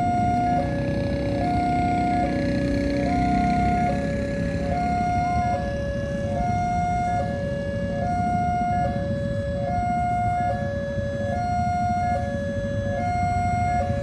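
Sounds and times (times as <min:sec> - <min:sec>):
two-note warning siren: 0:00.0 - 0:14.0.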